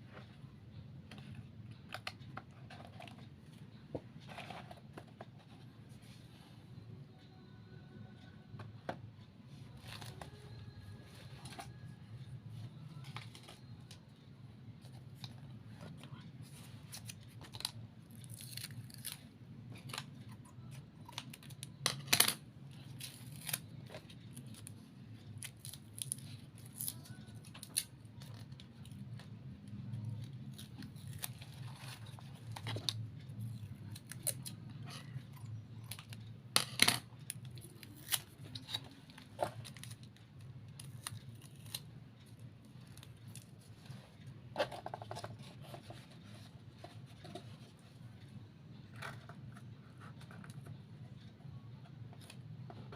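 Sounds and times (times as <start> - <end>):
low steady hum: 0.0 - 52.9.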